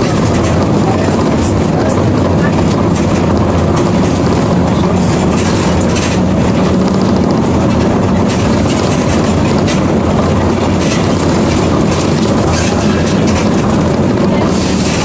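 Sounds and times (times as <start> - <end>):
body rattling: 0.0 - 15.0
bus diesel engine hum: 0.0 - 15.0
road noise: 0.0 - 15.0.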